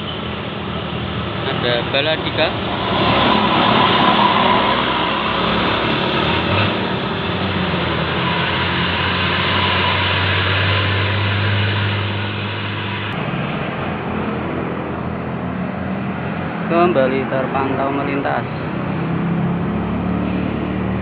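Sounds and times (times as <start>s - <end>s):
bus diesel engine hum: 0.0s - 21.0s
road noise: 0.0s - 21.0s.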